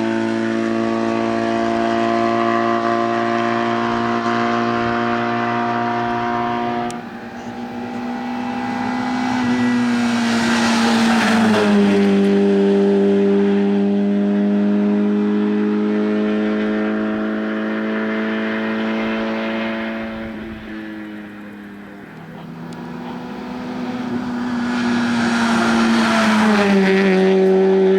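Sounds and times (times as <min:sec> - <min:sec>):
racing car engine passing: 0:00.0 - 0:27.9.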